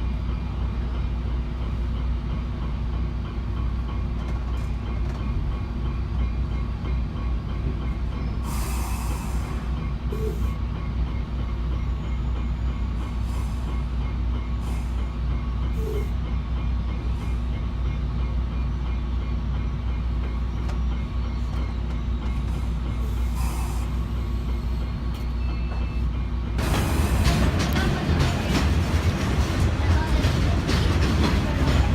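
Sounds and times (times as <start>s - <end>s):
train rumbling: 0.0s - 31.9s.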